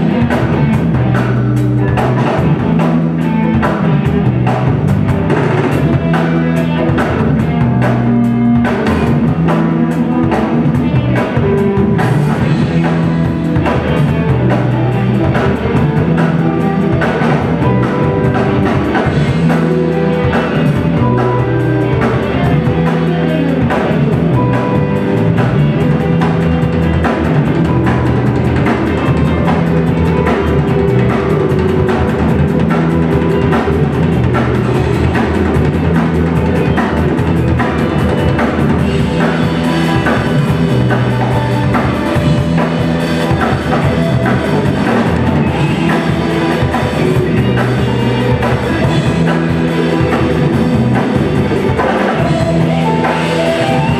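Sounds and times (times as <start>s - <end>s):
drum kit beat: 0.0s - 53.9s
rock band playing live: 0.0s - 53.9s.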